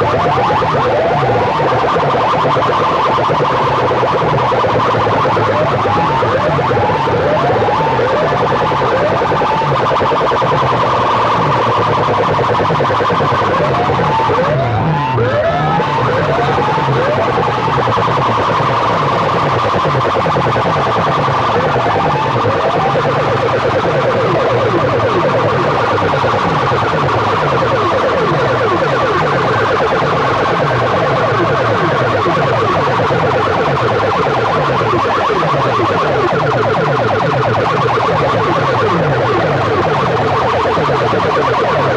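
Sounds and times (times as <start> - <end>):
electronic siren effect: 0.0 - 41.9
fast repeating bass pattern: 0.0 - 41.9.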